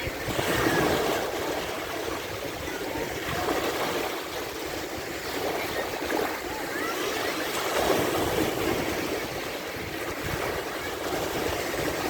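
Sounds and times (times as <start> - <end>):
foamy water running over sand: 0.0 - 12.0
waves breaking: 0.0 - 12.0.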